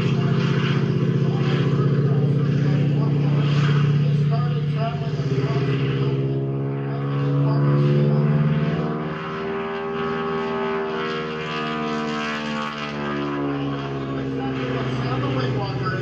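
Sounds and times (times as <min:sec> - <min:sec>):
biplane propeller drone: 0:00.0 - 0:16.0.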